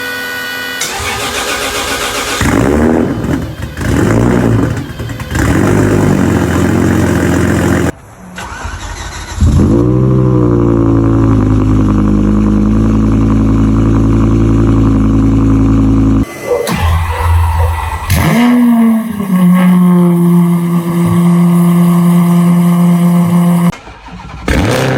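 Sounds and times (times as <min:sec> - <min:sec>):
car engines cold-starting and revving: 0:00.8 - 0:24.9.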